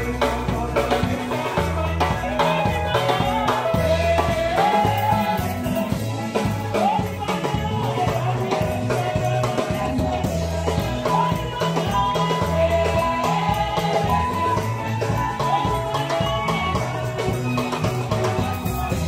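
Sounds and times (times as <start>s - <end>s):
drum kit: 0.0s - 19.0s
electric bass groove: 0.0s - 19.0s
voices singing: 0.0s - 19.0s.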